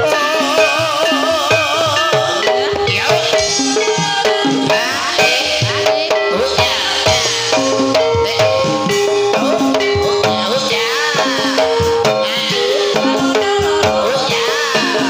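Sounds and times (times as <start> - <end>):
hand drums beating: 0.0 - 15.0
metallophones playing melody: 0.0 - 15.0.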